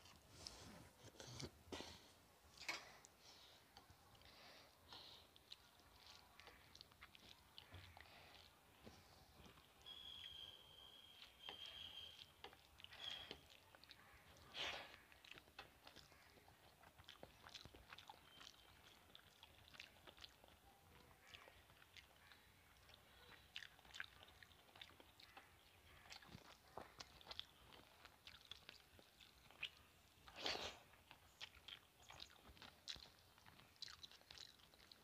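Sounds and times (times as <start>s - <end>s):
faint wet chewing: 0.0s - 35.0s.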